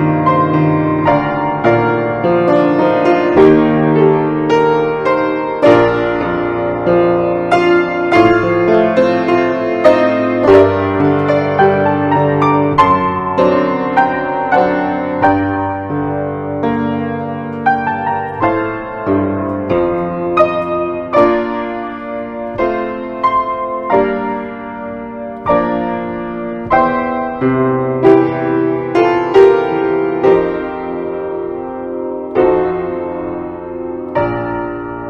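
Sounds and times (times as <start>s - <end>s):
slow gentle piano piece: 0.0s - 35.0s.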